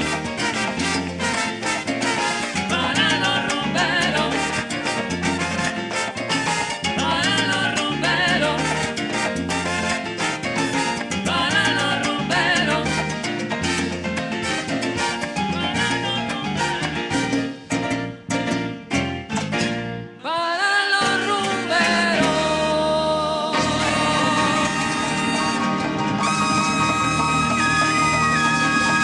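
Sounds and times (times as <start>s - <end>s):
live latin dance band: 0.0s - 29.0s.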